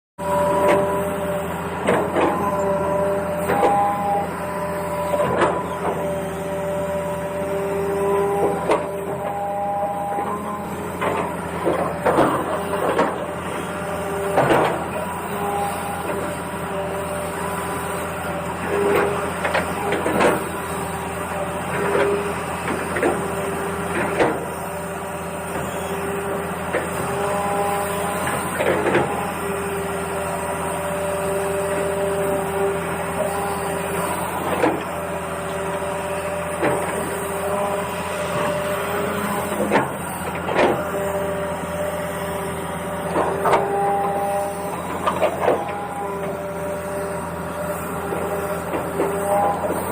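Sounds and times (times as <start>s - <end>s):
small electric motors whining: 0.2s - 49.9s.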